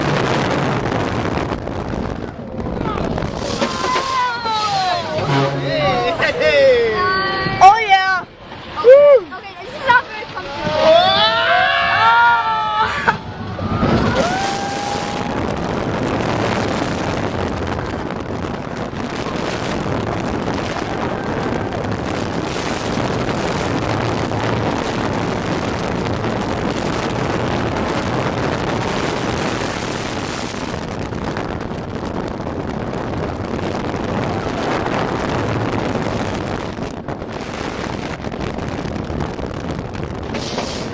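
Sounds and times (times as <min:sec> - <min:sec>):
roller coaster rumbling on track: 0:00.0 - 0:40.9
wind rushing over microphone: 0:00.0 - 0:40.9.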